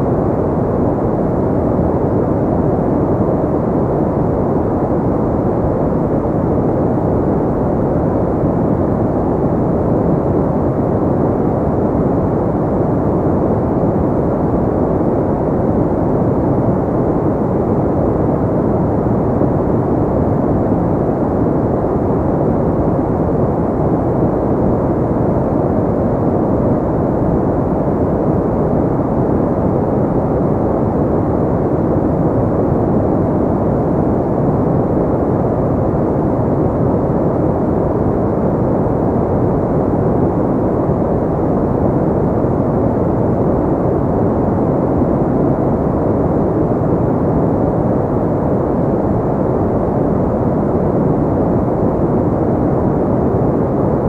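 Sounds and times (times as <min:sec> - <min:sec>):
low muffled white noise: 0:00.0 - 0:54.0.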